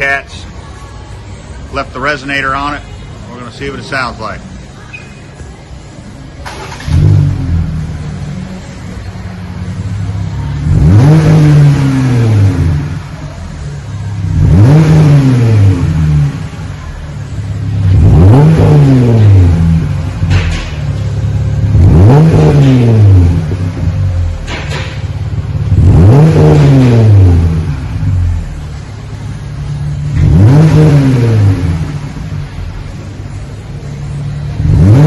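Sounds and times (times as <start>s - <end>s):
car engine starting: 3.8s - 35.0s
engine exhaust revving: 6.4s - 35.0s.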